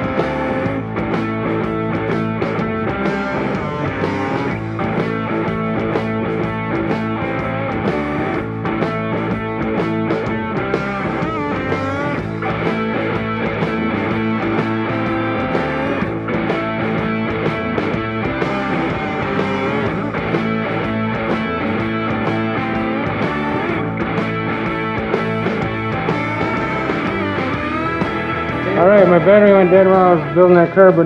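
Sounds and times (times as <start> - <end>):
bending guitar line: 0.0 - 31.0
rock music with electric guitar: 0.0 - 31.0.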